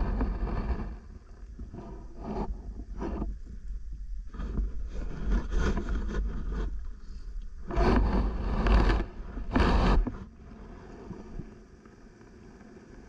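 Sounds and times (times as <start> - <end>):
underwater rumble and water rushes: 0.0 - 13.0.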